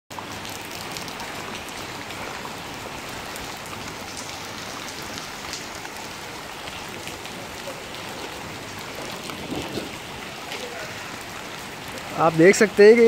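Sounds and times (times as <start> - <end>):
heavy rain falling: 0.1 - 13.0.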